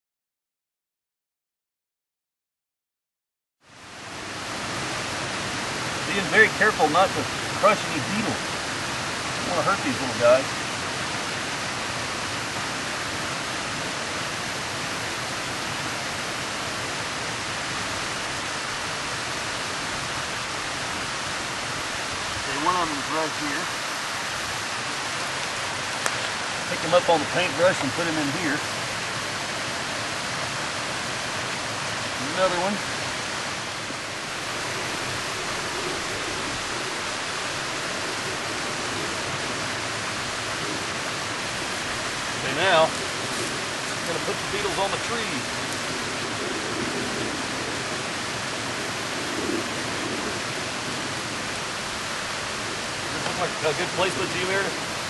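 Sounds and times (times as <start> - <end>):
steady rushing hiss: 3.7 - 55.0.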